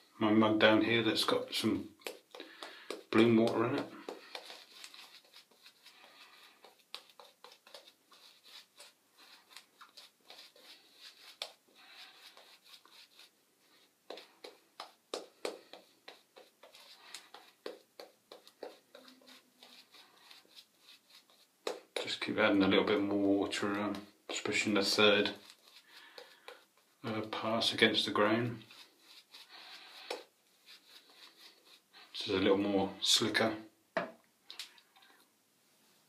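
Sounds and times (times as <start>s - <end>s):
shaving brush swishing lather: 1.2s - 32.3s.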